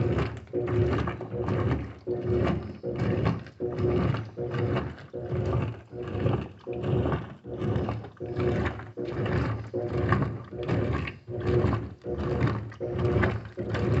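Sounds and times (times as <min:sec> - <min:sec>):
washing machine agitating: 0:00.0 - 0:14.0.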